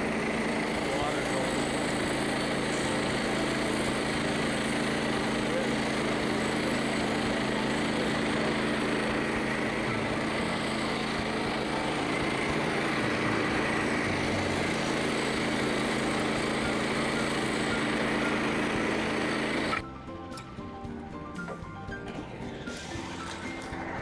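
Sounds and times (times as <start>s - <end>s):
bandsaw mill cutting log: 0.0s - 20.6s, 21.3s - 24.0s.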